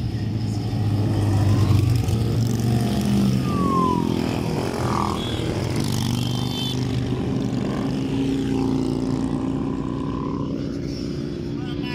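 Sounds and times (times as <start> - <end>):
motorcycles riding past: 0.0 - 11.9.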